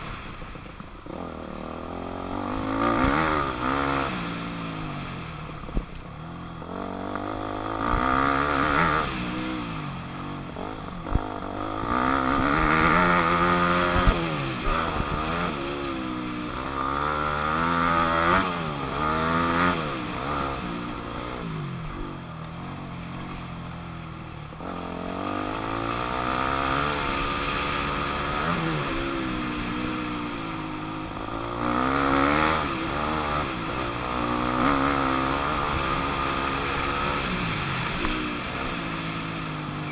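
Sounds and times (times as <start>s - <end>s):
dirt bike engine revving: 1.1s - 5.6s, 6.6s - 23.4s, 24.5s - 39.9s.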